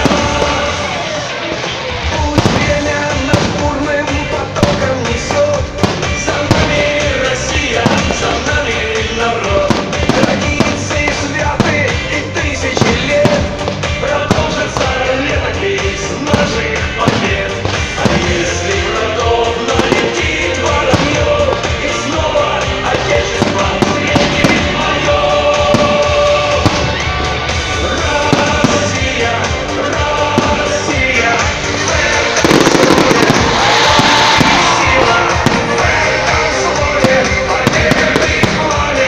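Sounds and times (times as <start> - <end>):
fireworks bangs: 0.0 - 39.0
fireworks crackling: 0.0 - 39.0
loud music: 0.0 - 39.0.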